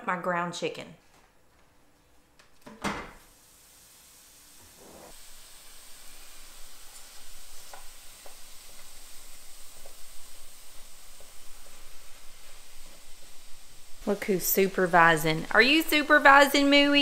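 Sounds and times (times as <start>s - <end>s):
meat sizzling: 3.2s - 17.0s.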